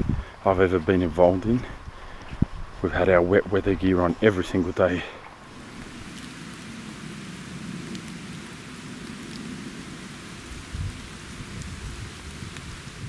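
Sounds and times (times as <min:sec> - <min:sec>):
rain falling on bushes: 0:00.0 - 0:13.0.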